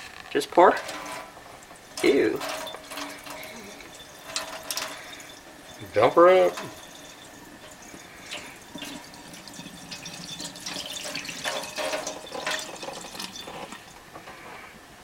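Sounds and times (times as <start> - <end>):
water pouring and splashing: 0.6 - 14.3.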